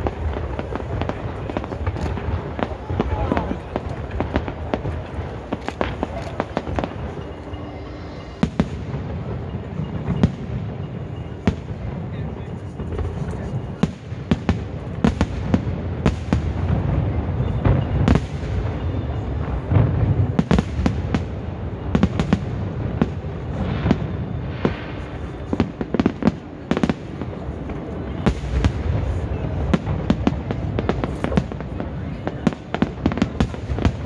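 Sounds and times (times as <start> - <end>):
distant fireworks booms: 0.0 - 34.0
fireworks sharp bangs: 0.0 - 34.0.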